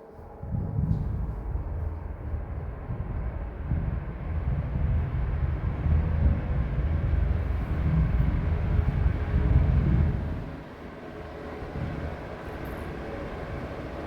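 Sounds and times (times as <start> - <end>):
ceiling fan bearing rumble: 0.0 - 14.0.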